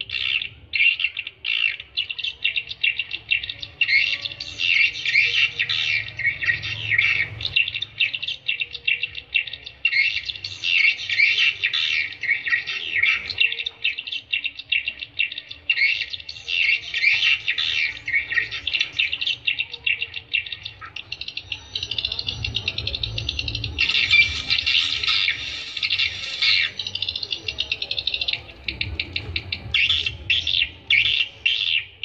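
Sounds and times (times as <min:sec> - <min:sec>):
swiftlets twittering chirps: 0:00.0 - 0:32.0.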